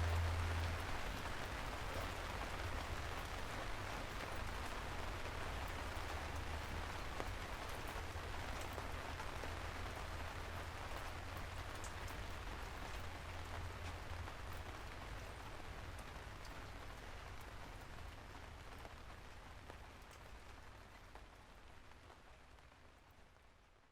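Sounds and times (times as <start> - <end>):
rain falling: 0.0 - 23.9.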